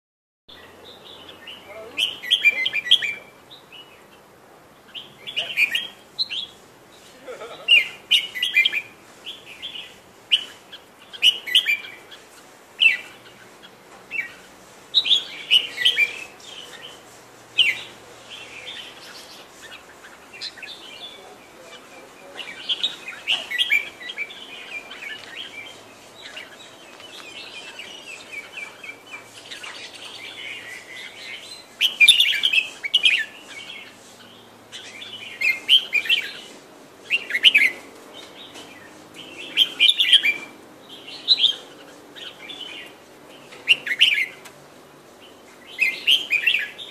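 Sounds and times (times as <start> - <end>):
soft bird twittering: 0.5 - 44.5, 45.2 - 46.9
birds chirping loudly: 0.5 - 46.9.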